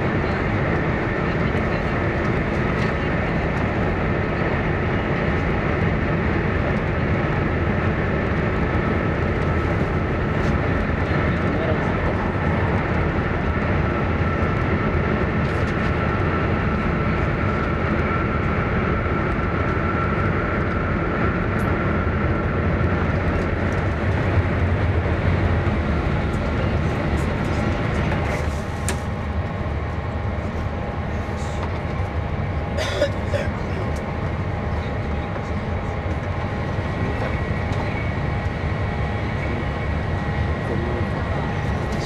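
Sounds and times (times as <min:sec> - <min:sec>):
train cabin rumble and rush: 0:00.0 - 0:42.0.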